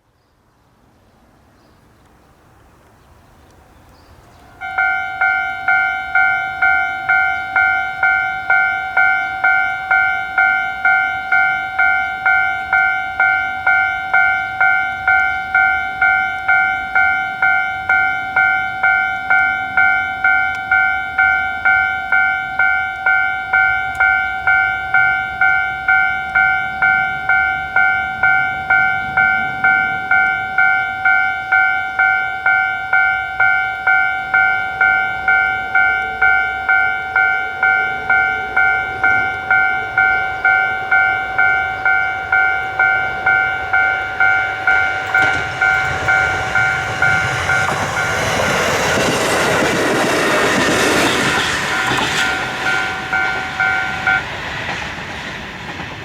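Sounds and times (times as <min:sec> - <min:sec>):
level-crossing warning bell: 0:04.1 - 0:56.0.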